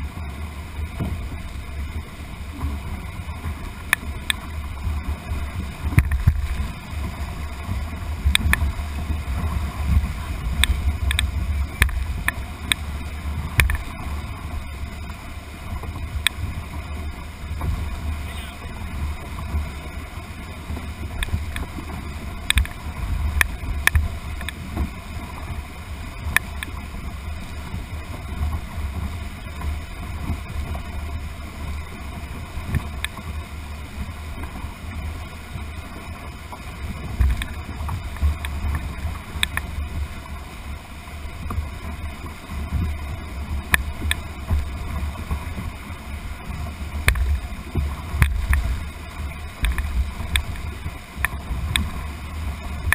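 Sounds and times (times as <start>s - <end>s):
whitewater rushing: 0.0s - 52.9s.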